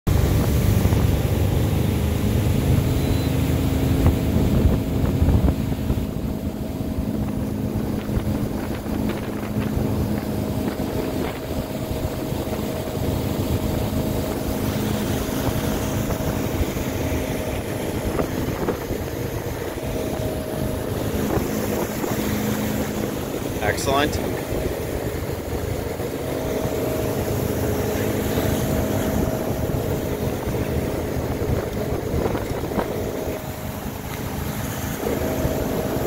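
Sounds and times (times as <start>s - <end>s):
boat engine running: 0.1s - 36.0s
wind buffeting microphone: 0.1s - 36.0s.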